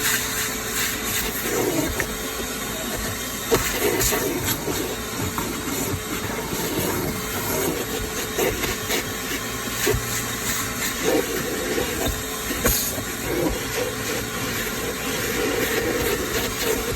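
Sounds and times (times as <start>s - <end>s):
wet dry vacuum running: 0.0s - 16.9s
vacuum nozzle knocking and rattling: 1.4s - 16.9s.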